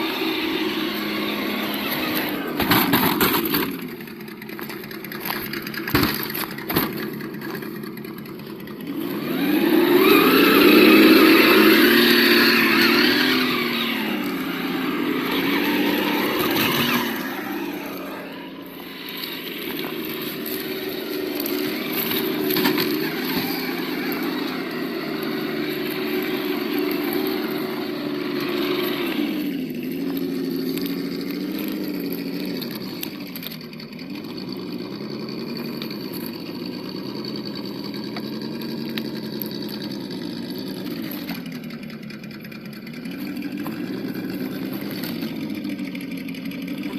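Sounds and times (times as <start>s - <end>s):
simulated engine sound: 0.0s - 46.9s.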